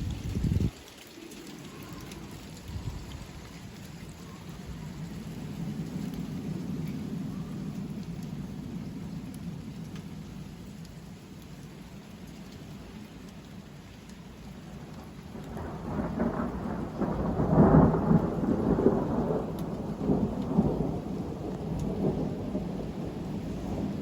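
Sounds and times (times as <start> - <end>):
rolling thunder rumble: 0.0 - 24.0.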